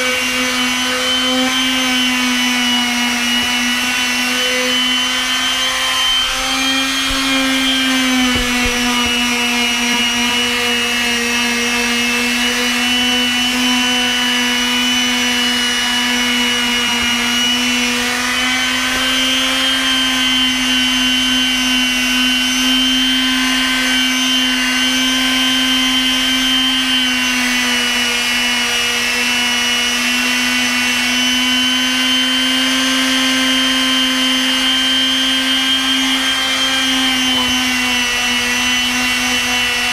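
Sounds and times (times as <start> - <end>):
palm sander sanding boards: 0.0 - 39.9.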